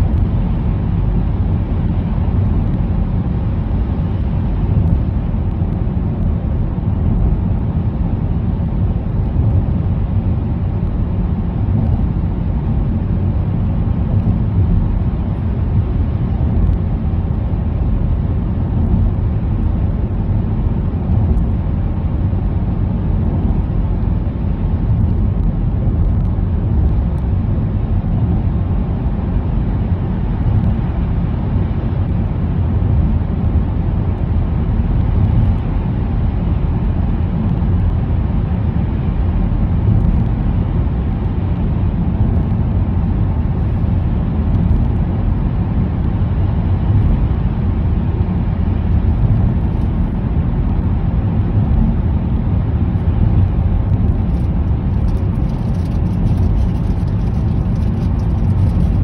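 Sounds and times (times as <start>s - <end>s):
car tyre and engine rumble: 0.0s - 59.0s.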